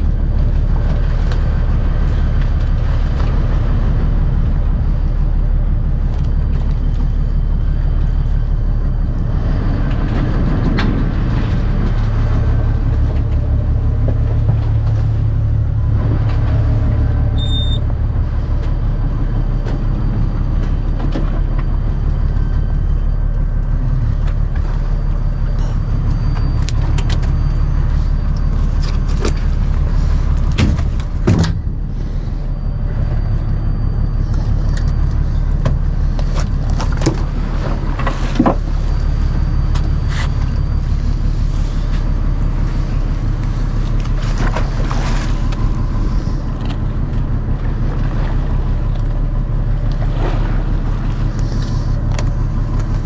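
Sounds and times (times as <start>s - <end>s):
boat engine rumbling: 0.0s - 53.0s.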